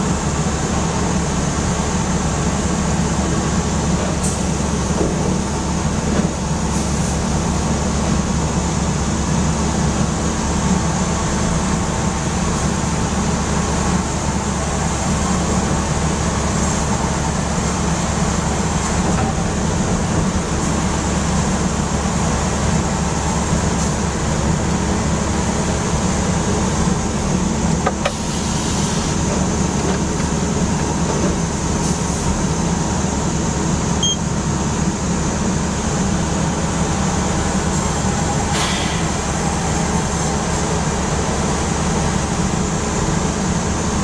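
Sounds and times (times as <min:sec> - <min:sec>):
sawmill machinery drone: 0:00.0 - 0:44.0.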